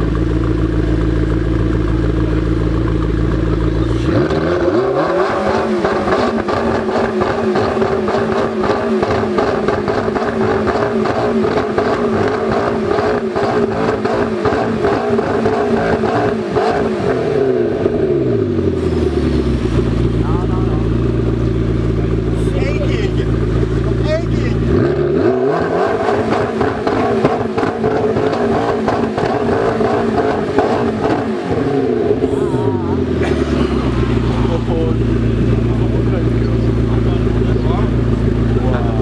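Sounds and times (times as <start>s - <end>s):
sports car engine revving: 0.0s - 39.0s.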